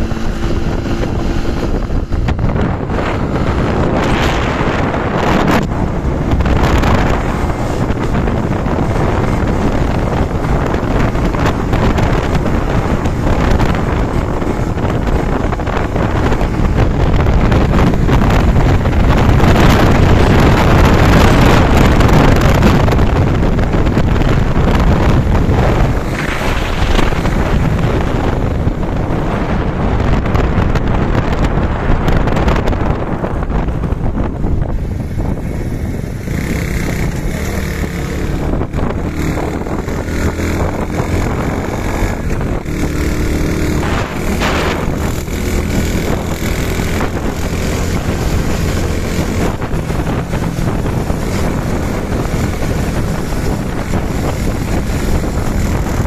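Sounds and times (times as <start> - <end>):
motorcycle engine: 0.0 - 56.0
road noise: 0.0 - 56.0
wind buffeting microphone: 0.0 - 56.0.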